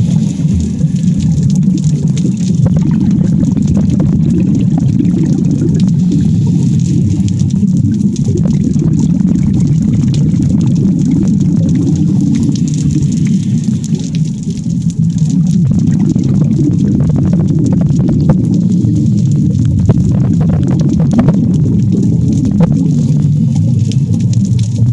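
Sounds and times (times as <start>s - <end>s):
underwater rumble of moving water: 0.0s - 24.9s.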